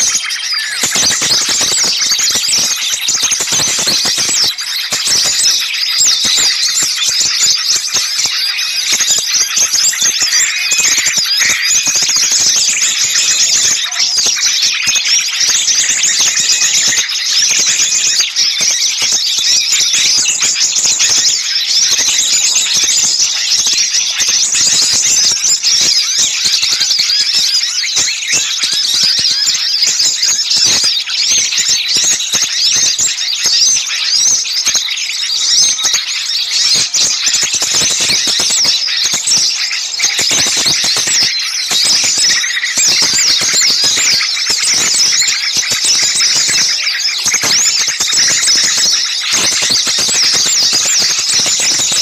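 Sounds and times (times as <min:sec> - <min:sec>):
songbirds chattering chorus: 0:00.0 - 0:52.0.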